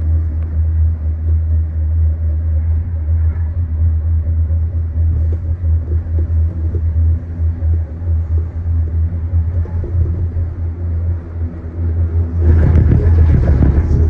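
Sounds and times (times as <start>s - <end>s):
gondola cabin rumble: 0.0s - 14.0s.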